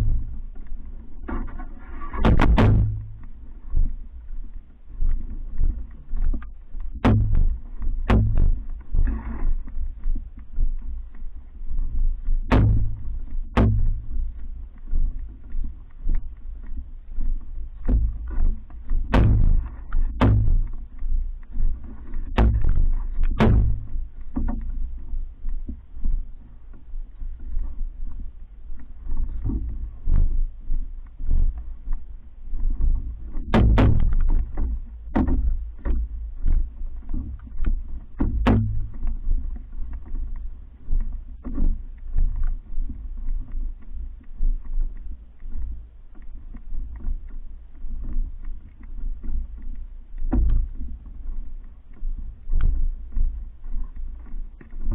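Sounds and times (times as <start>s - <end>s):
sharp knocks on boat: 0.0s - 4.1s, 5.0s - 27.6s, 29.1s - 32.0s, 32.6s - 44.8s, 45.6s - 54.9s
low rumble: 0.0s - 54.9s
paddle strokes: 0.0s - 54.9s
water sloshing against hull: 0.0s - 54.9s.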